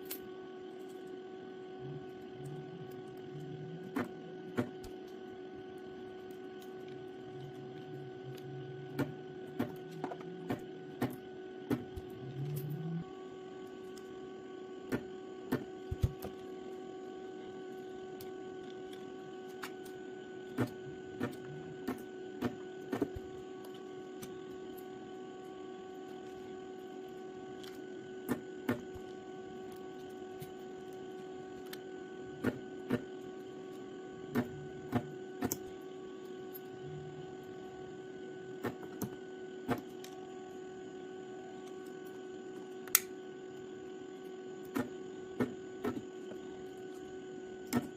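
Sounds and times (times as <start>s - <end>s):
electrical mains hum: 0.0s - 47.9s.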